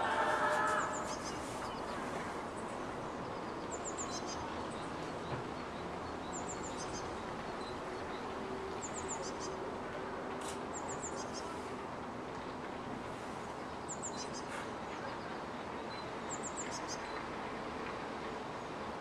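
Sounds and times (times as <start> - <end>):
distant city hum: 0.0 - 19.0.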